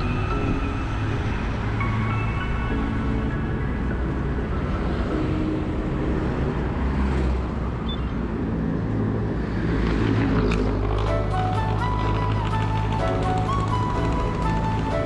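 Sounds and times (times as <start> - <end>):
motor vehicles passing: 0.0 - 15.0.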